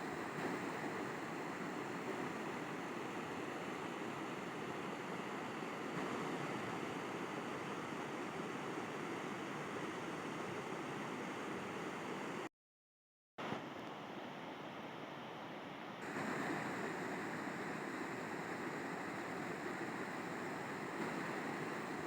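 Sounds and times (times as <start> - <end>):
river water rushing: 0.0 - 12.4, 16.0 - 22.0.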